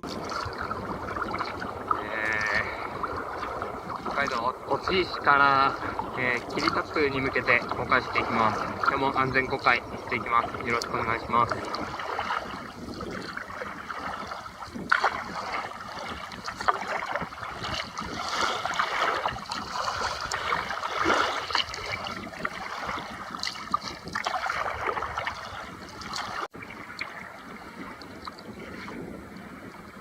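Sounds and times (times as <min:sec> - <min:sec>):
paddle splashing in water: 0:00.0 - 0:30.0
water sloshing against hull: 0:00.0 - 0:30.0.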